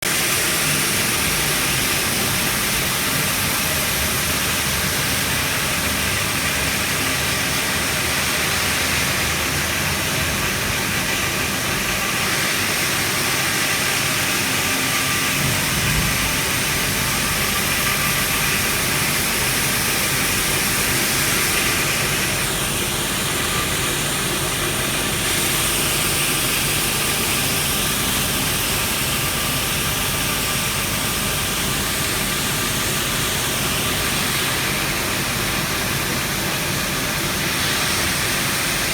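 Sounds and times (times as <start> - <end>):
wire saw machine running: 0.1 - 38.9.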